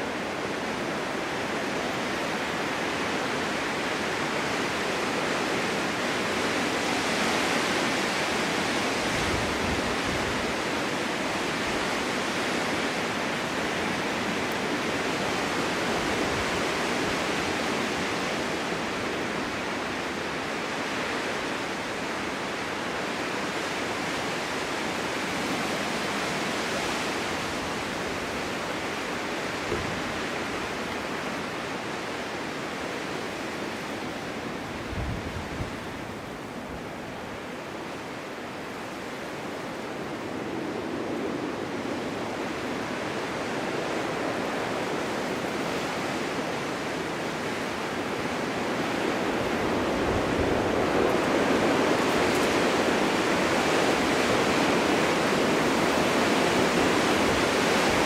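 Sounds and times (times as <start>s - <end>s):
wind blowing: 0.0s - 58.0s.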